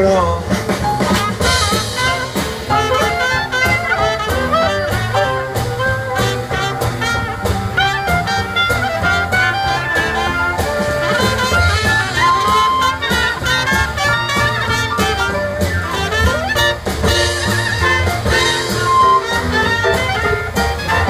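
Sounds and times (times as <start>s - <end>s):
drums: 0.0s - 21.0s
walking double bass: 0.0s - 21.0s
brass horns: 0.5s - 21.0s.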